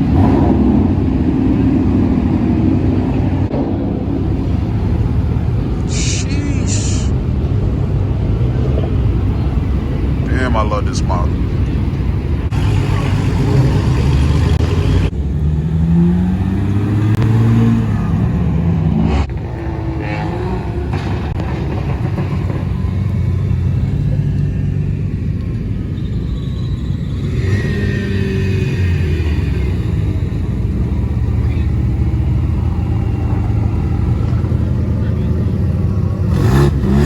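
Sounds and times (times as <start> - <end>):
car engines rumbling: 0.0 - 37.0
engine revving: 0.0 - 37.0.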